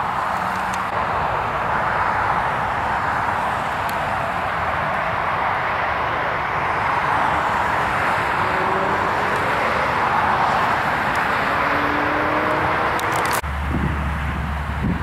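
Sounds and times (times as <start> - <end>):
road traffic rushing: 0.0 - 15.0
vehicle engine: 0.0 - 15.0.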